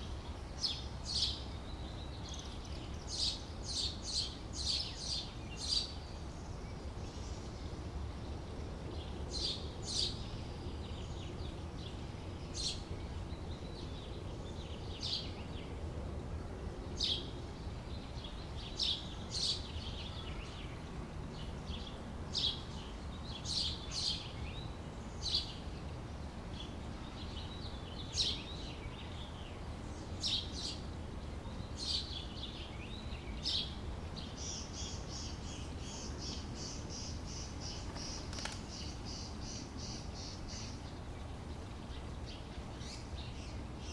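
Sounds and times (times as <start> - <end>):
birds chirping: 0.0 - 15.9, 16.8 - 43.9.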